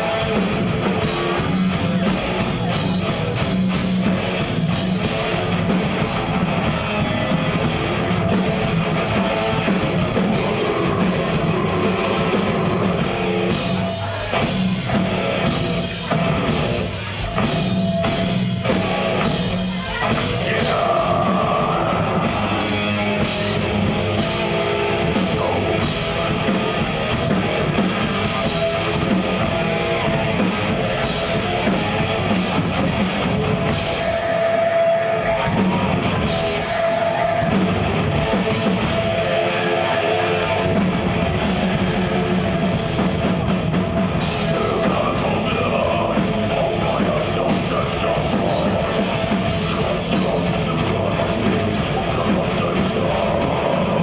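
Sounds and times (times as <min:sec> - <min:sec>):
death metal band playing live: 0:00.0 - 0:54.0
distorted guitars: 0:00.0 - 0:54.0
drum kit: 0:00.0 - 0:54.0.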